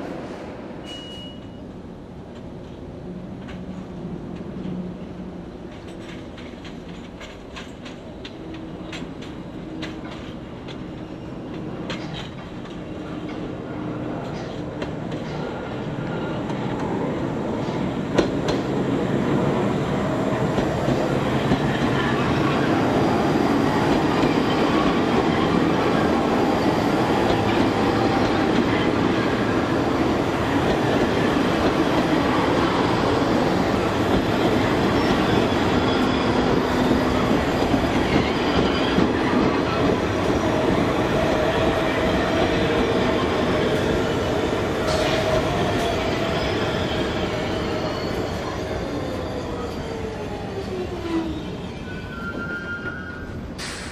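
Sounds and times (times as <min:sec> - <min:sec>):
train wheels rumbling on track: 0:02.2 - 0:53.9.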